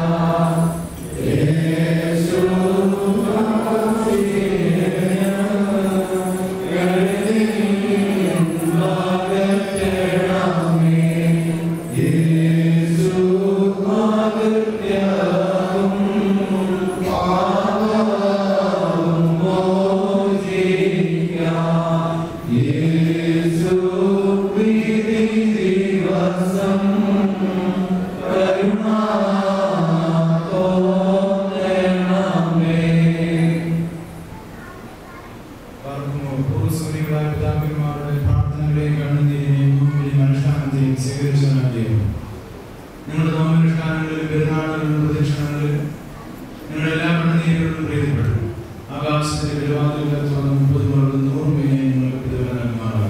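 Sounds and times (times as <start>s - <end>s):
chanted hymn: 0.0s - 53.0s.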